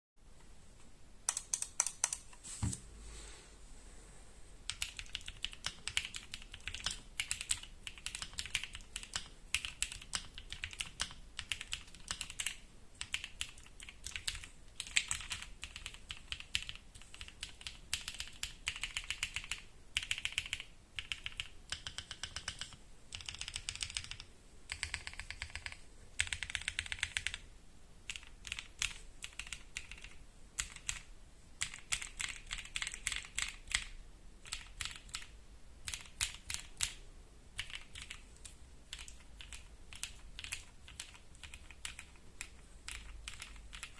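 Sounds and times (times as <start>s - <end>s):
mechanical keyboard typing: 1.3s - 2.3s, 4.7s - 27.5s, 28.1s - 37.0s, 37.6s - 43.9s.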